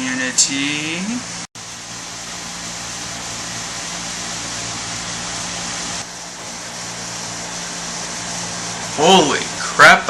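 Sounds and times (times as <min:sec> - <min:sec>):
steady rushing hiss: 0:00.0 - 0:10.0.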